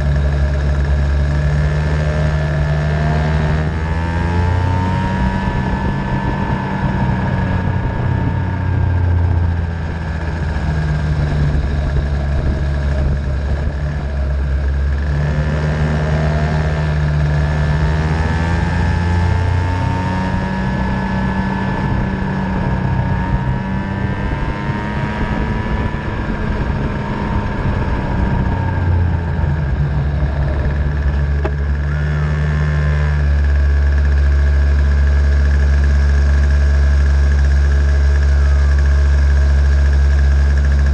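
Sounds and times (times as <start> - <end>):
racing engine revving: 0.0 - 40.9.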